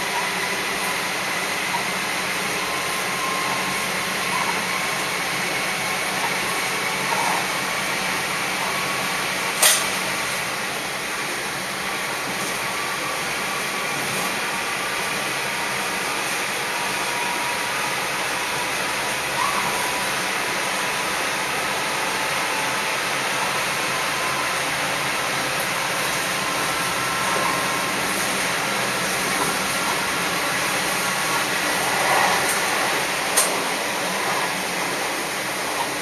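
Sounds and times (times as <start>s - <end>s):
wheels on rail and engine: 0.0s - 36.0s.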